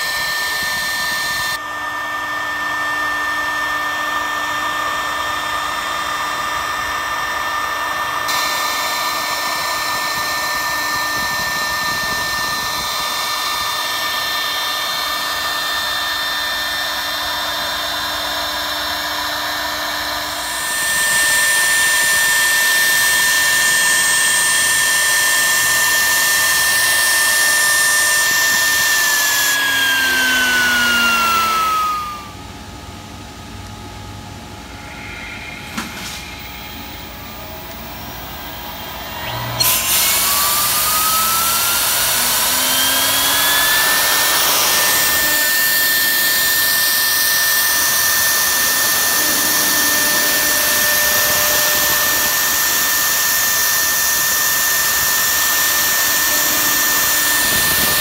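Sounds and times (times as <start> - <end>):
router spindle high whine: 0.0 - 58.0.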